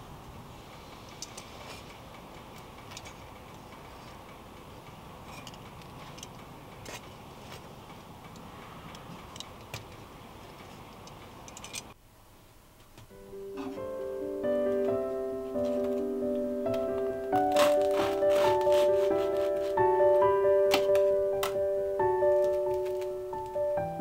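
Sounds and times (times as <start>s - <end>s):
low background noise: 0.0s - 24.0s.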